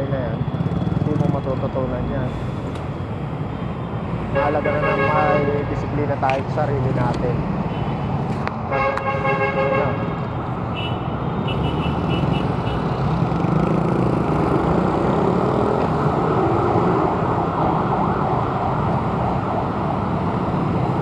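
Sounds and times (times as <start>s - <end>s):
busy road traffic: 0.0s - 21.0s.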